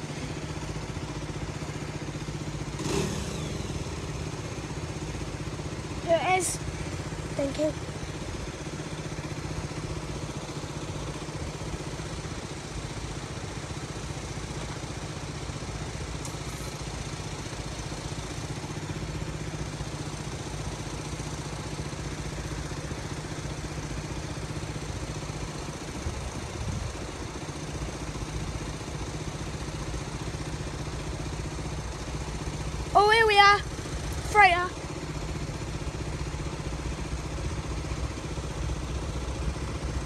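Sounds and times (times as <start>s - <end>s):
low engine drone: 0.0s - 13.4s, 15.6s - 40.0s.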